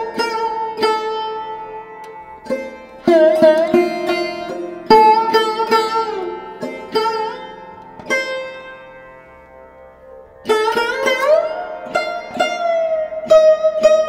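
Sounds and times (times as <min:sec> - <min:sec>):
plucked string melody: 0:00.0 - 0:14.0.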